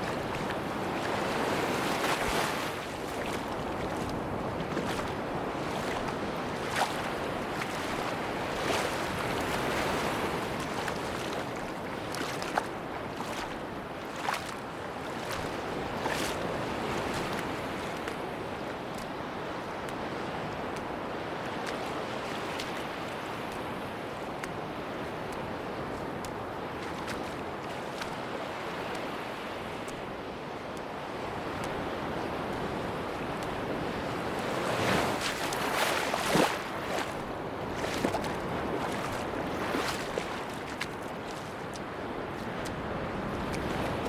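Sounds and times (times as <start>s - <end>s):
sea waves washing onto a beach: 0.0s - 44.0s.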